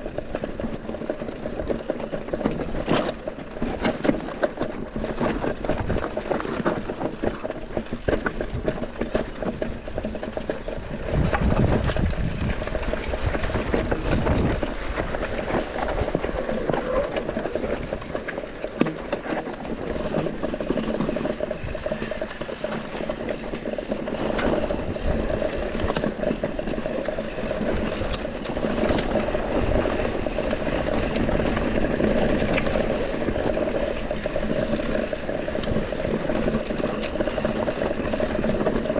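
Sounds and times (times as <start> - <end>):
bike clicking and rattling: 0.0 - 38.9
bike tyres over gravel and rock: 0.0 - 38.9.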